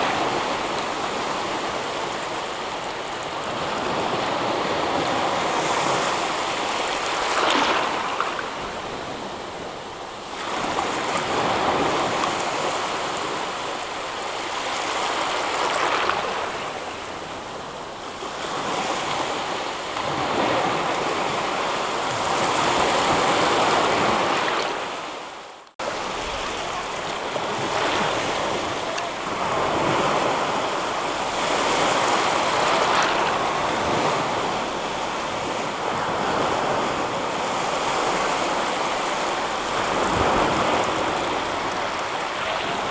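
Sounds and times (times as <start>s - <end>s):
ocean waves washing ashore: 0.0s - 42.9s.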